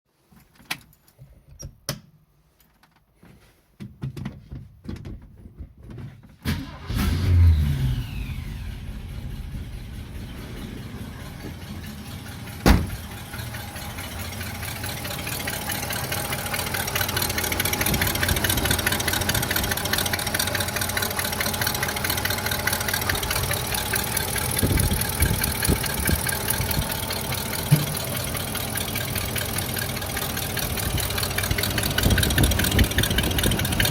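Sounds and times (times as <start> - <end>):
car engine starting and idling: 6.4 - 33.9.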